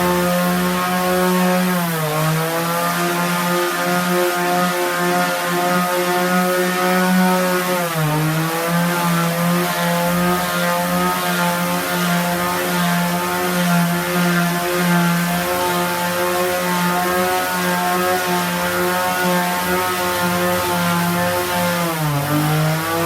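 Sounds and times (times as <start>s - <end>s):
electric power sander running: 0.0s - 23.0s.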